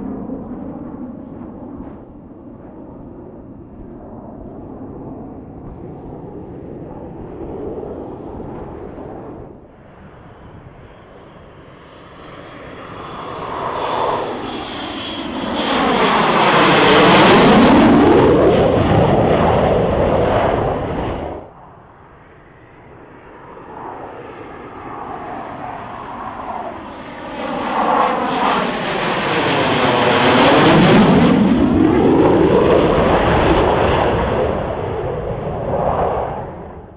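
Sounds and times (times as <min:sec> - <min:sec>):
jet engines passing with whoosh: 0:00.0 - 0:36.9.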